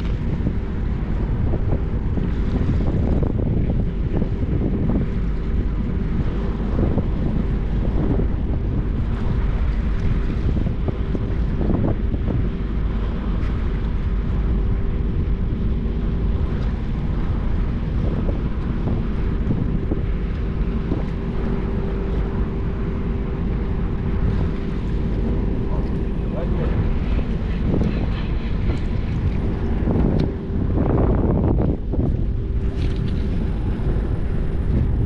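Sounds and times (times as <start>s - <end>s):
ship engines humming: 0.0s - 35.0s
wind rumbling on microphone: 0.0s - 35.0s.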